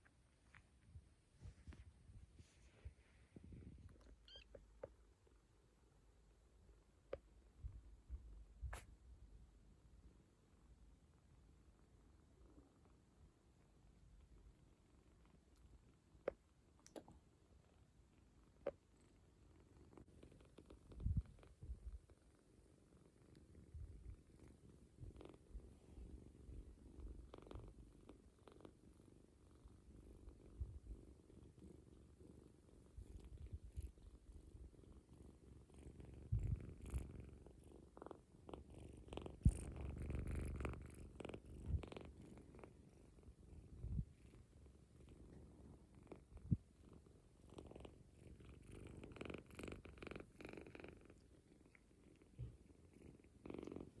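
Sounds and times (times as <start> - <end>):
kitten purring: 0.0 - 54.0.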